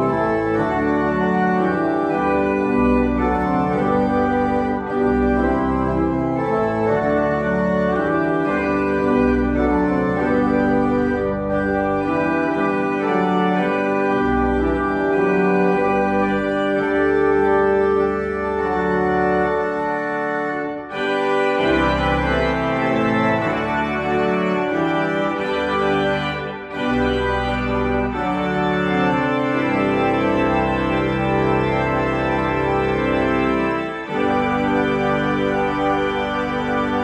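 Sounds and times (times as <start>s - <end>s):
church organ chords: 0.0s - 37.0s.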